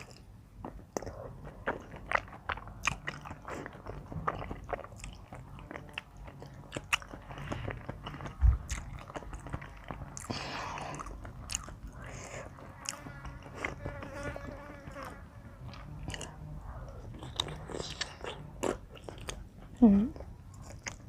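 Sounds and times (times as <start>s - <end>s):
person chewing wet smacks: 0.0s - 14.2s, 15.7s - 19.5s.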